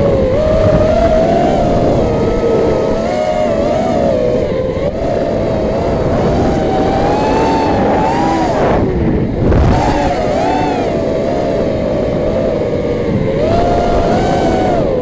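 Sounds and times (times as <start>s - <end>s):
low rushing noise: 0.0s - 15.0s
model aircraft motor whine: 0.0s - 15.0s.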